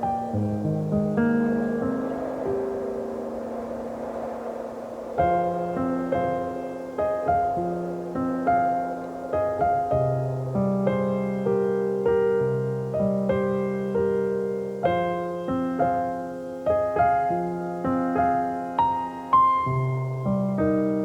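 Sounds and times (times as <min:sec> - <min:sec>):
slow gentle solo piano: 0:00.0 - 0:04.2, 0:05.1 - 0:21.0.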